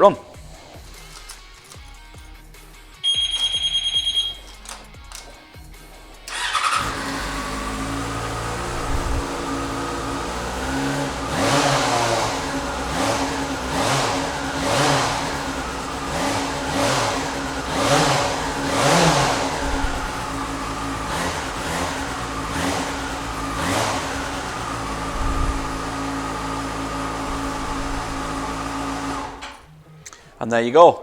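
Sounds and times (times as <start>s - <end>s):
motorcycle engine throttle blips: 3.0s - 4.8s, 6.3s - 29.8s.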